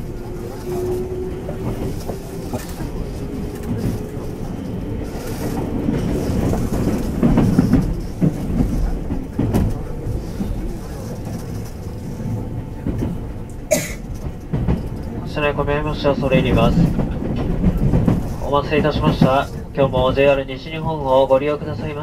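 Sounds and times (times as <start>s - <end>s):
train rumble from inside: 0.0s - 22.0s.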